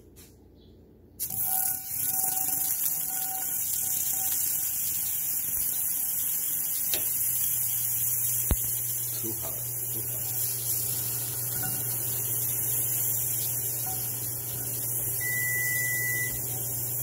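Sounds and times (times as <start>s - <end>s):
sizzling in a frying pan: 1.2s - 17.0s.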